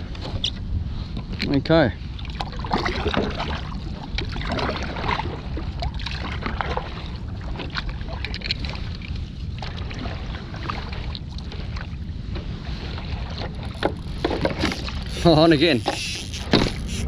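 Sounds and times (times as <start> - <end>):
water lapping against paddleboard: 0.0 - 17.0
wind rumbling on microphone: 0.0 - 17.0.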